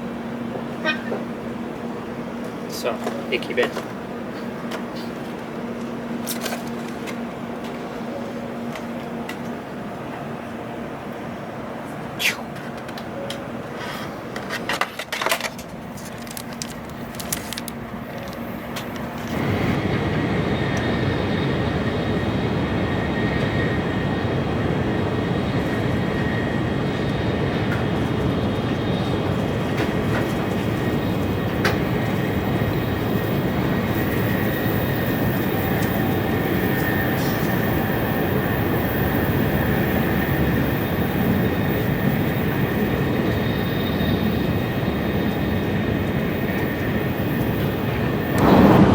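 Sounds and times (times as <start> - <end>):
bullet train running at speed: 0.0 - 48.9.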